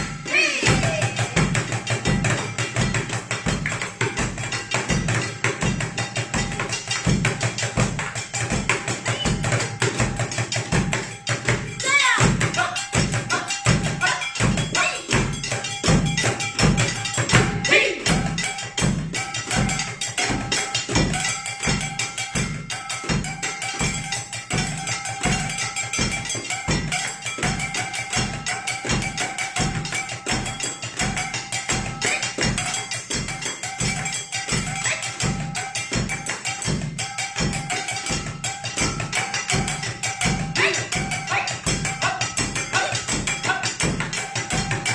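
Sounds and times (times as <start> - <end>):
taiko drums: 0.0 - 44.9.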